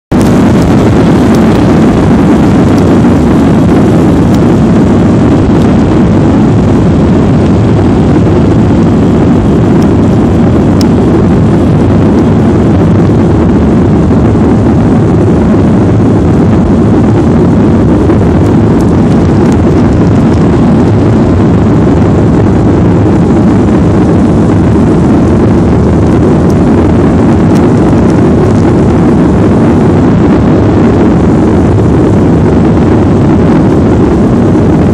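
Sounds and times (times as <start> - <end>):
jet engines rumbling: 0.1 - 34.9.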